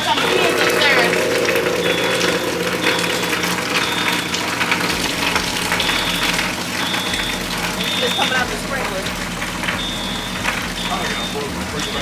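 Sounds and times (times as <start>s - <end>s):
water rushing from a sprinkler: 0.0s - 12.0s.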